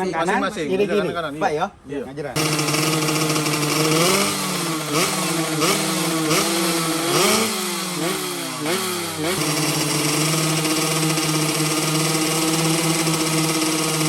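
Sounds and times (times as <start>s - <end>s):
motorcycle engine revving and idling: 2.4s - 14.0s.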